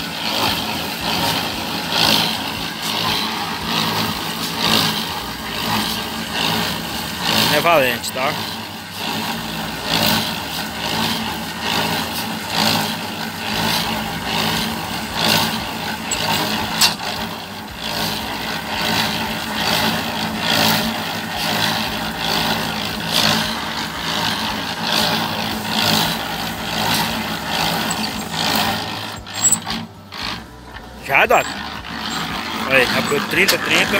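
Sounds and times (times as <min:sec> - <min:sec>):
concrete mixer humming: 0:00.0 - 0:33.9.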